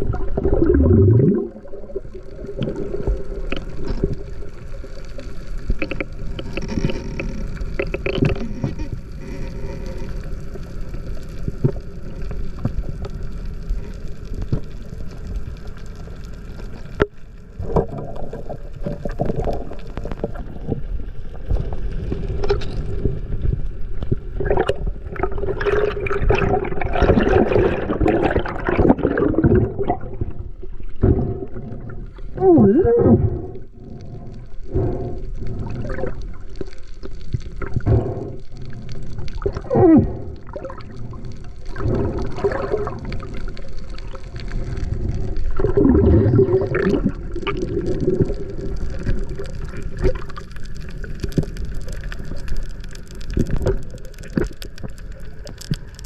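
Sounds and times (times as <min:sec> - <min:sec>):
bubbles: 0:00.0 - 0:15.4, 0:16.6 - 0:56.0
muffled underwater rush: 0:00.0 - 0:56.0
small clicks and gurgles: 0:00.0 - 0:56.0.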